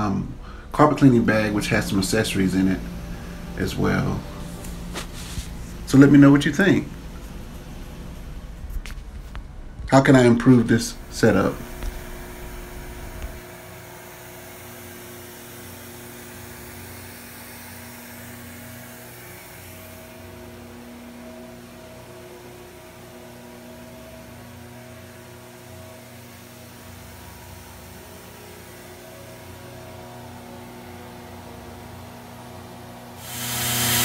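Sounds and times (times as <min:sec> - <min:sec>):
extraction machine humming: 0:00.0 - 0:34.0.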